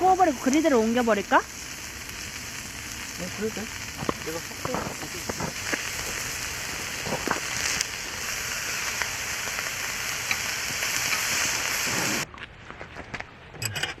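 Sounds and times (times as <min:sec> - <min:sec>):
meat sizzling on grill pan: 0:00.0 - 0:12.2.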